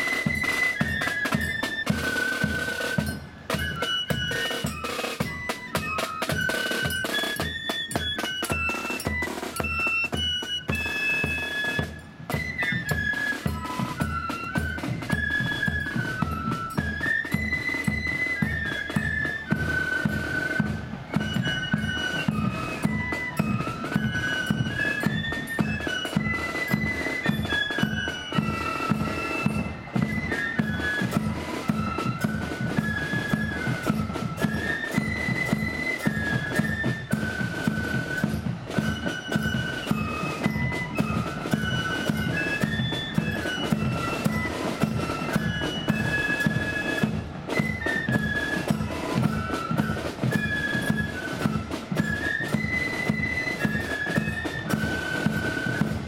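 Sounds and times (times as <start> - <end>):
drums beating steady time: 0.0 - 56.0
flutes playing in unison: 0.0 - 56.0.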